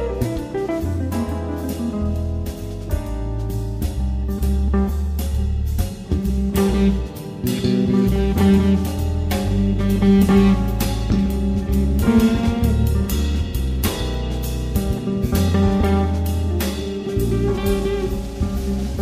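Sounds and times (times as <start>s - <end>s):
guitar band music: 0.0s - 19.0s.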